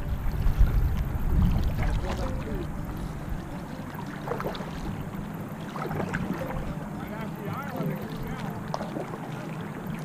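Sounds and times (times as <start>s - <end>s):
paddle splashes: 0.0s - 10.0s
water lapping against hull: 0.0s - 10.0s
wind rumble on microphone: 0.0s - 10.0s.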